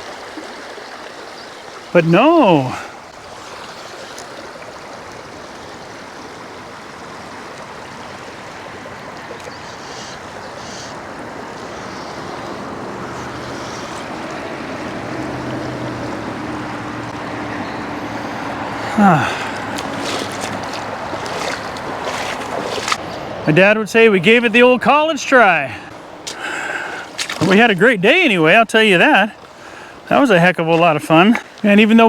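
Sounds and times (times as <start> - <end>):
river rushing: 0.0 - 32.0.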